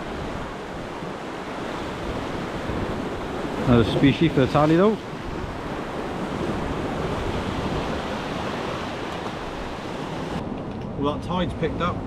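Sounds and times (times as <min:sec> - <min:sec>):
surf breaking over rocks: 0:00.0 - 0:11.0
wind buffeting microphone: 0:00.0 - 0:12.0.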